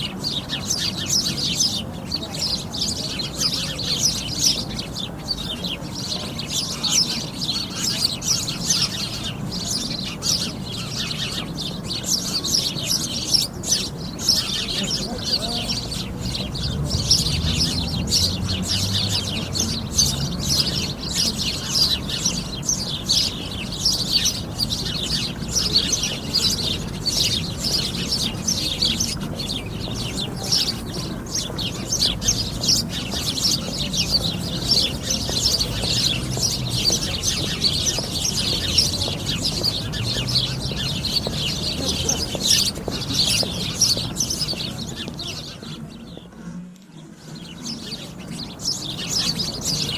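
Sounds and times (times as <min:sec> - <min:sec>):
sparrows chirping: 0:00.0 - 0:49.9.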